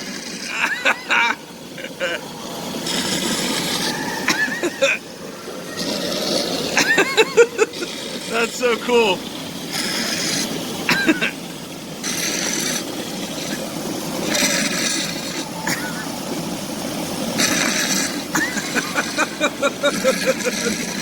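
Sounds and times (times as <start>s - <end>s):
hot tub water bubbling: 0.0s - 21.0s.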